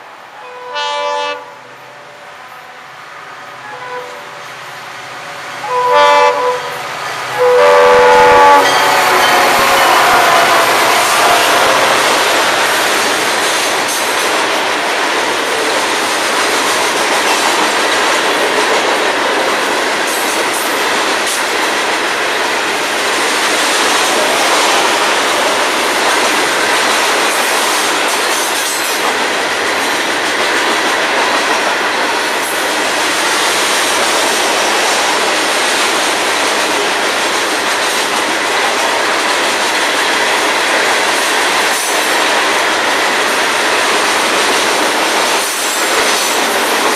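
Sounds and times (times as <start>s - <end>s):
steel wheels rolling on rail: 1.7s - 46.9s.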